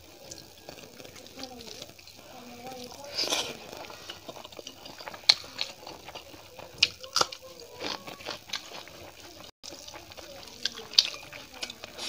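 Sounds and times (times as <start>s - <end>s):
wet chewing and squelching: 0.0s - 12.0s.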